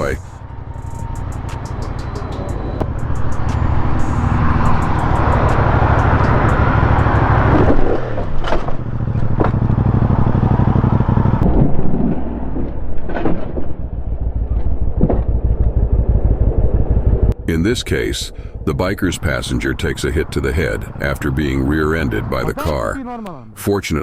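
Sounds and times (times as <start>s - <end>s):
motorcycle engine running: 0.0s - 11.4s, 13.8s - 22.6s
road and wind noise: 0.0s - 24.0s.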